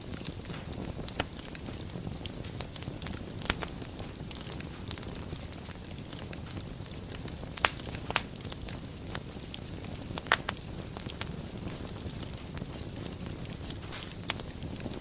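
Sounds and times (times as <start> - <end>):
fire burning in a fireplace: 0.0 - 15.0
fire crackling and popping: 0.0 - 15.0.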